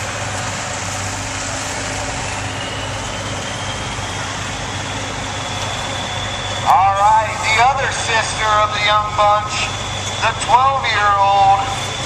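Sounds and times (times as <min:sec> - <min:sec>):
diesel truck engine running: 0:00.0 - 0:12.0
faint rising whine: 0:00.0 - 0:12.0.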